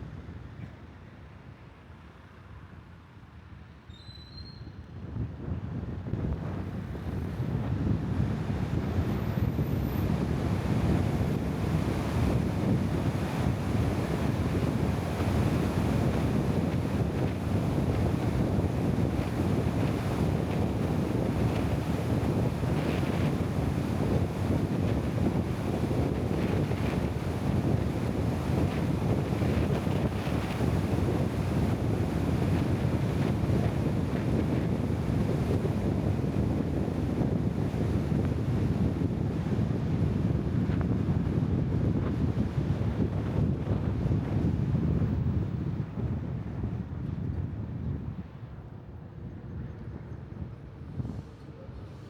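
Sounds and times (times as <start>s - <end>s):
low rumbling of wind and motion: 5.0s - 52.0s.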